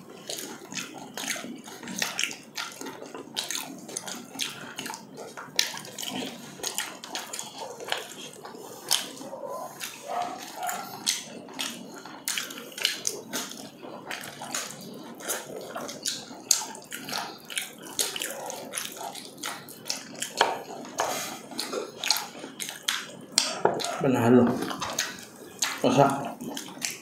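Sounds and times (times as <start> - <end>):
wet chewing and lip-smacking: 0.0 - 27.0.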